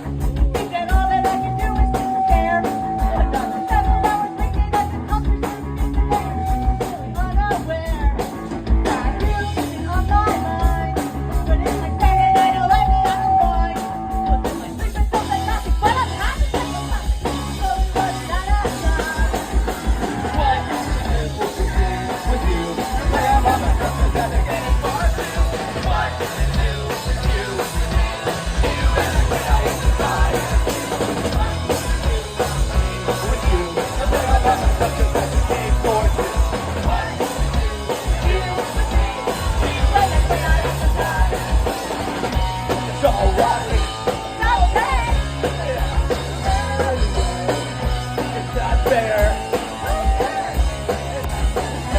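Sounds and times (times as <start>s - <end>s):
pop-punk band playing: 0.0s - 51.9s.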